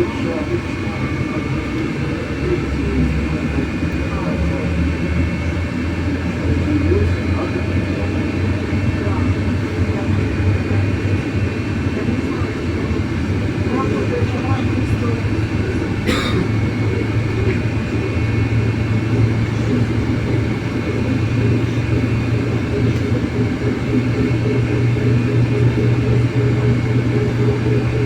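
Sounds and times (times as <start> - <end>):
bus cabin rumble: 0.0 - 28.0
electric drive hum: 0.8 - 28.0.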